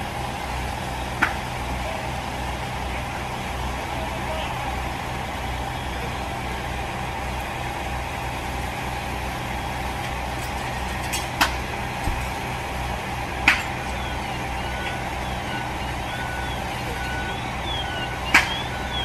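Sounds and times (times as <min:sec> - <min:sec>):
fire engine motor humming: 0:00.0 - 0:19.0.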